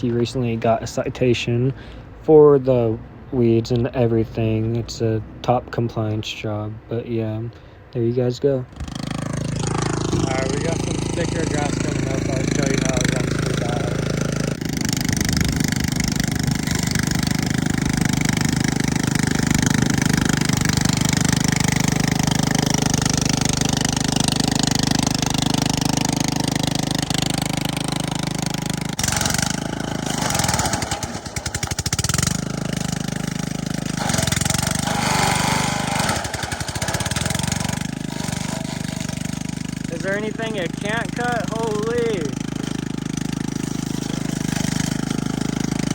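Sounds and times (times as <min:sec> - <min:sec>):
mower engine droning: 0:08.7 - 0:45.9.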